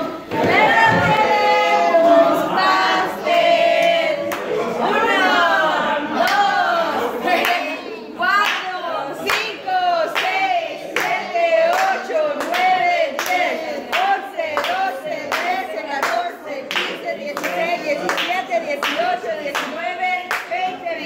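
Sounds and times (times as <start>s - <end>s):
group singing: 0.0s - 21.0s
people clapping along: 0.2s - 5.1s, 6.2s - 6.7s, 7.3s - 21.0s.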